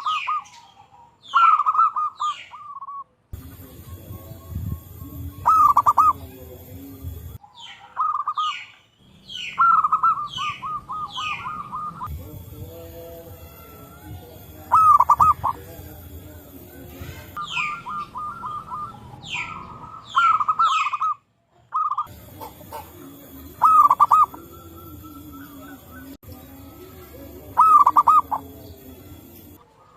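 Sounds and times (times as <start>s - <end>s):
doves cooing: 0.0s - 8.6s, 9.4s - 29.9s
birds chirping: 0.0s - 29.9s.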